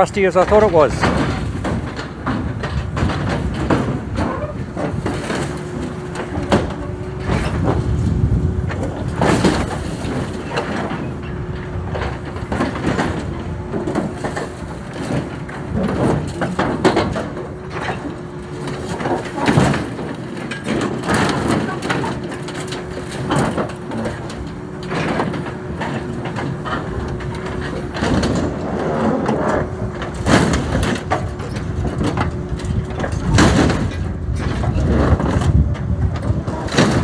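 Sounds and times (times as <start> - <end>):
steel scraping and clanking: 0.0 - 35.6
diesel engine under load: 0.0 - 37.0.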